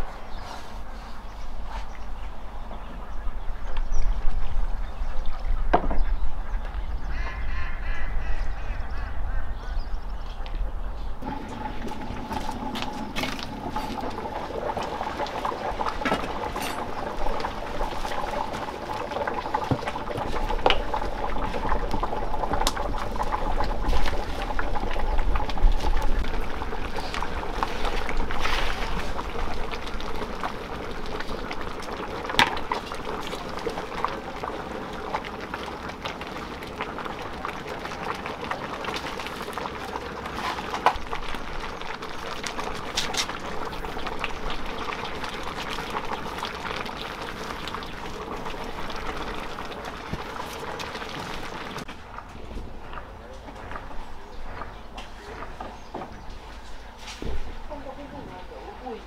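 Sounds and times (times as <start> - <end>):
porridge bubbling in a pot: 10.5 - 59.0.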